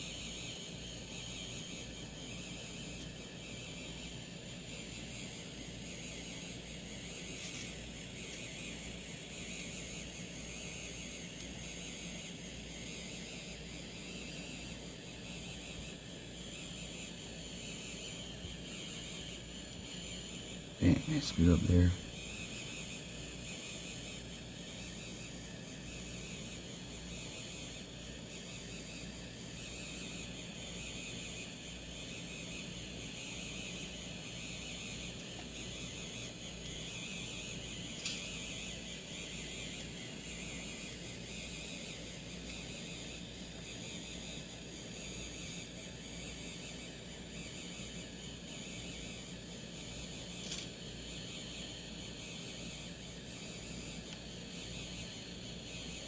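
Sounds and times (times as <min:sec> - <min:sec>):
pen feed motor humming: 0:00.0 - 0:56.0.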